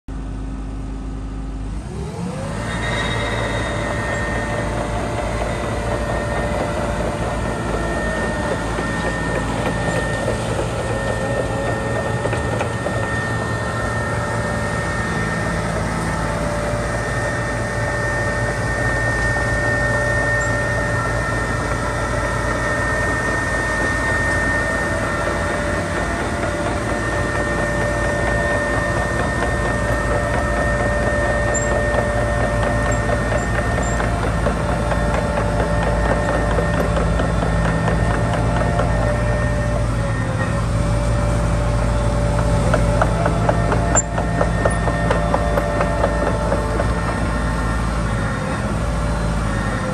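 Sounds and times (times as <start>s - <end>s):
diesel engine running: 0.1s - 49.9s
high mechanical whine: 0.1s - 49.9s.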